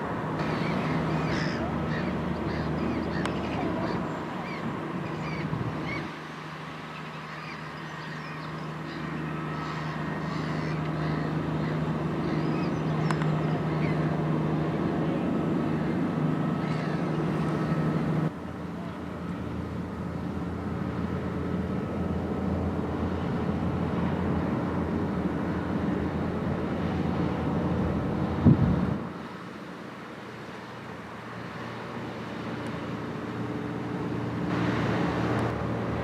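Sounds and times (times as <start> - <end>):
boat engine drone: 0.0 - 36.0
low engine drone: 0.0 - 36.0.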